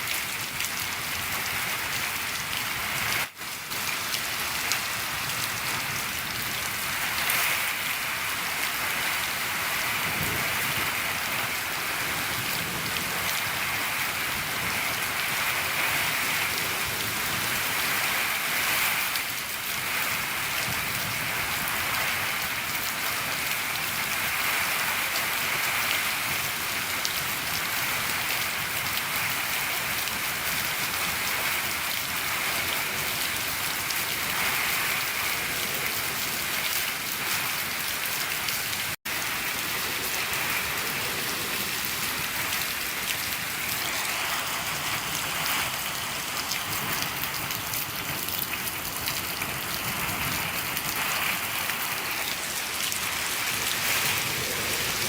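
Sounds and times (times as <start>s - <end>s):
rain on a shed roof: 0.0s - 55.0s.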